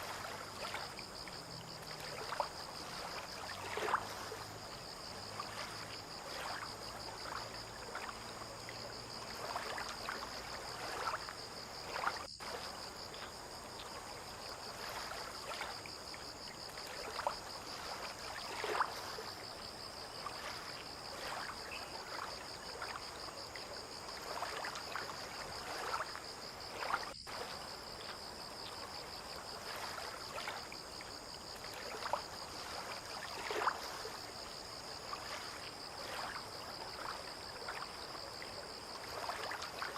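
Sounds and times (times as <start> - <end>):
water lapping at shore: 0.0 - 39.9.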